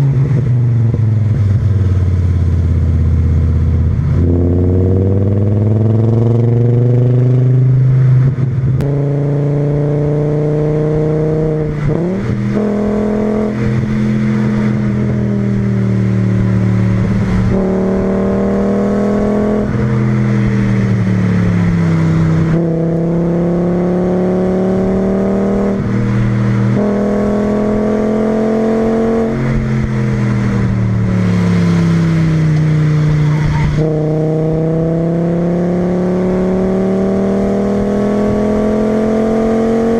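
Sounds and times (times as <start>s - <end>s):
car engine revving under load: 2.8s - 39.9s.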